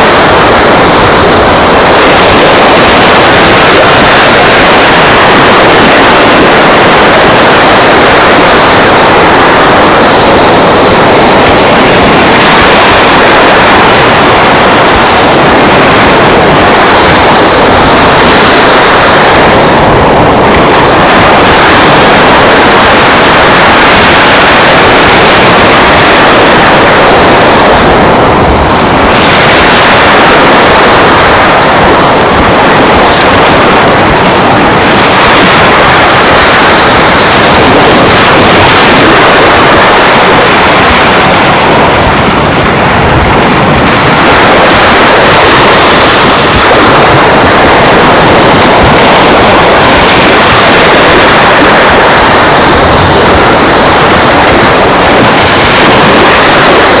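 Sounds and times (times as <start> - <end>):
surf rushing: 0.0 - 57.0
wind: 0.0 - 57.0.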